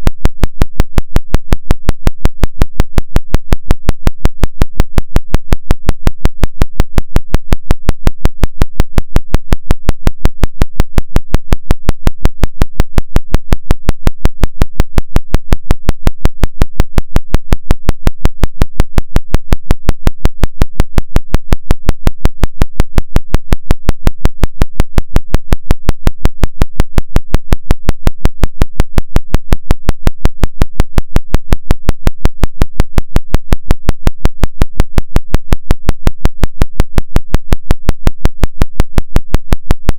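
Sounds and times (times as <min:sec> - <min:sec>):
pulsed low electronic tone: 0:00.0 - 0:39.9.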